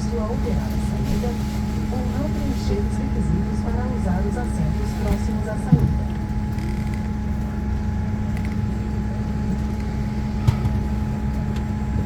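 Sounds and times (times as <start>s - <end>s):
cabin air system drone: 0.0s - 12.0s.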